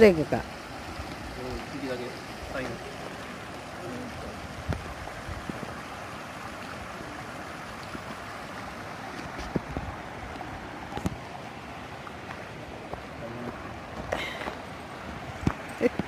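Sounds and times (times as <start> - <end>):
water pouring into pond: 0.0 - 16.0.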